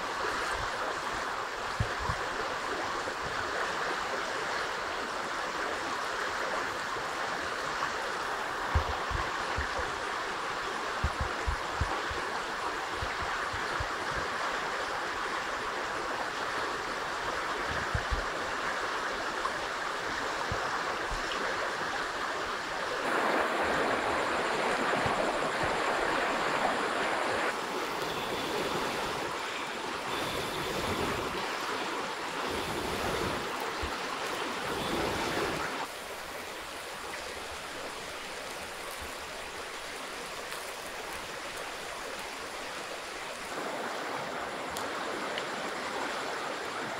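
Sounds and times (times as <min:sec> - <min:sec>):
river flowing: 0:00.0 - 0:46.9.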